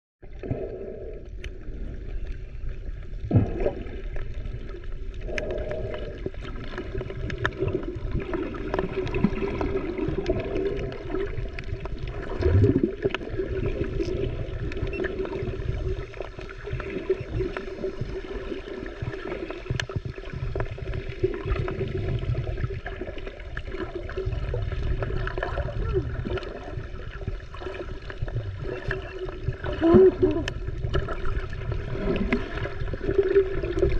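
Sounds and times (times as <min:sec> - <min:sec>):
watery rumble: 0:00.2 - 0:33.9.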